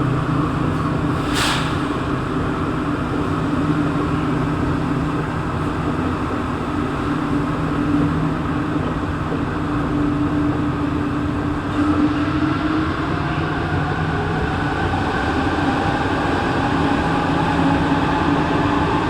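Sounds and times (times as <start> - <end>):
metro train interior running noise: 0.0 - 19.0.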